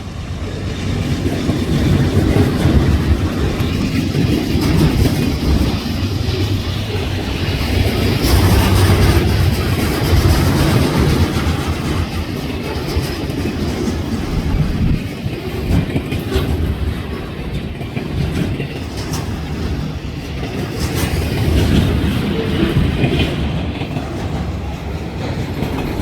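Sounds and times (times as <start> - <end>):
train rumbling past: 0.0 - 26.0
wheels clacking on rails: 0.0 - 26.0.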